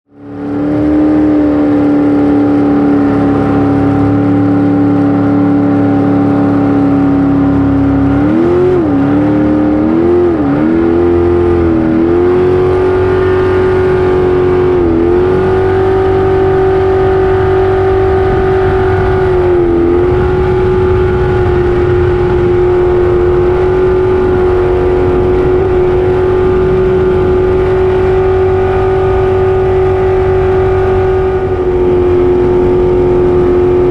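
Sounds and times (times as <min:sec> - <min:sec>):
jet boat engine running: 0:00.1 - 0:33.9.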